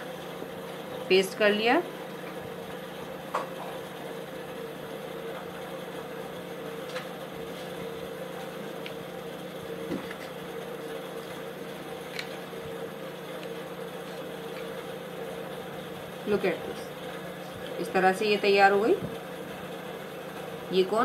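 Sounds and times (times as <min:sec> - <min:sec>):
mechanical motor hum: 0:00.0 - 0:21.0.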